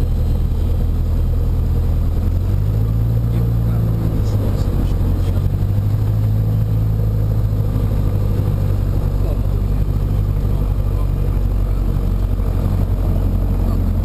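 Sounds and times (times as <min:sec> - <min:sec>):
light aircraft engine and propeller: 0:00.0 - 0:14.0.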